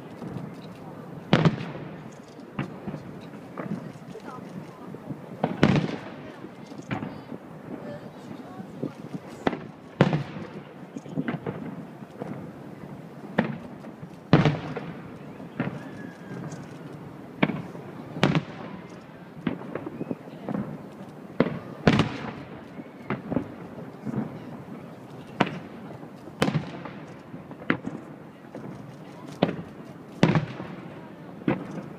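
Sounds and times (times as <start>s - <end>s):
firework shells bursting: 0.0s - 31.9s.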